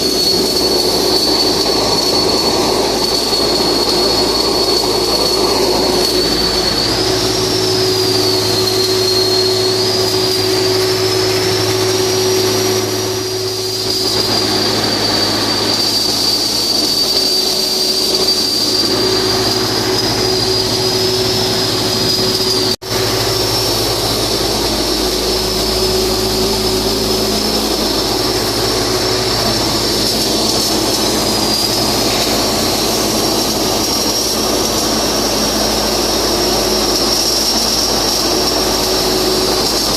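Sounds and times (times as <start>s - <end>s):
faint wavering high whine: 0.0s - 39.9s
low machinery hum: 0.0s - 39.9s
welding arc hiss: 0.0s - 39.9s.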